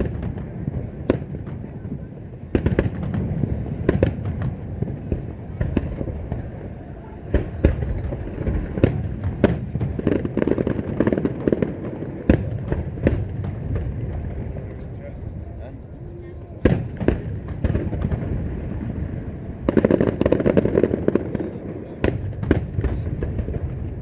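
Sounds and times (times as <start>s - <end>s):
fireworks bursting bangs: 0.0s - 24.0s.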